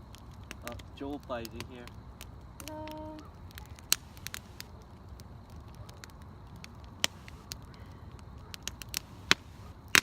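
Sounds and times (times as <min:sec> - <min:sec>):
bonfire crackling: 0:00.0 - 0:10.0
sharp pops and snaps: 0:00.0 - 0:10.0.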